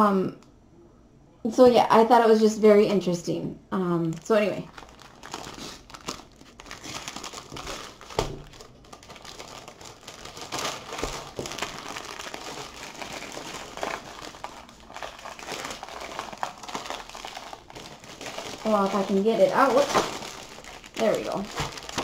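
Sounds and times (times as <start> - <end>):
plastic wrapping crinkling: 4.1 - 22.0.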